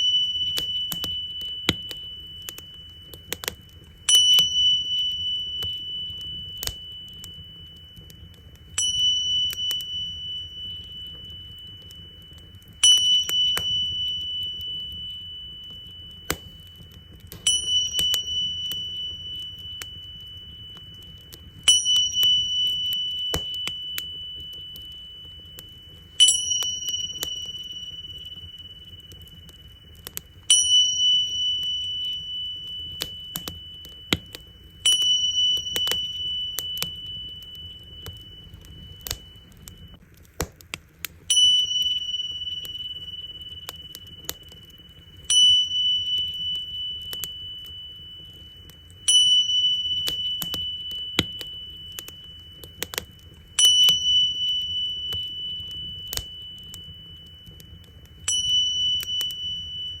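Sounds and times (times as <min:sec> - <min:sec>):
tingsha cymbals ringing: 0:00.0 - 0:40.0, 0:41.3 - 1:00.0
wood fire crackling: 0:00.0 - 1:00.0.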